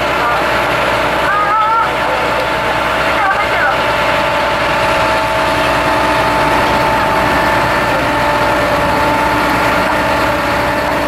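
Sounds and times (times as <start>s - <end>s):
high whine: 0.0s - 11.0s
vehicle engine idling: 0.0s - 11.0s.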